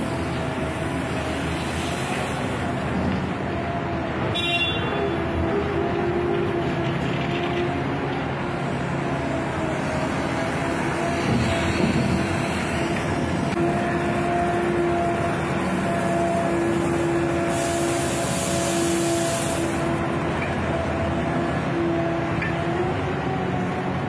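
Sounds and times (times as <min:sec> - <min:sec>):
crane machinery drone: 0:00.0 - 0:24.0.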